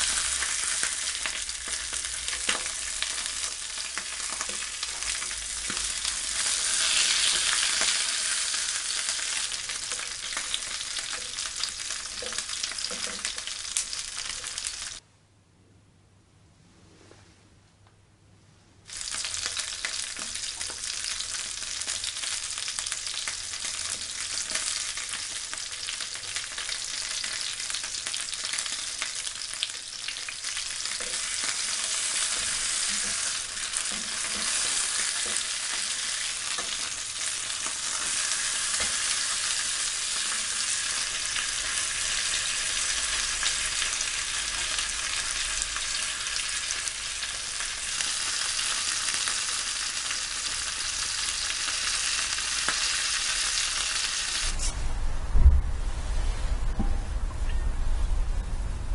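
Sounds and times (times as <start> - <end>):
chicken sizzling in hot oil: 0.0 - 15.0, 18.9 - 54.7.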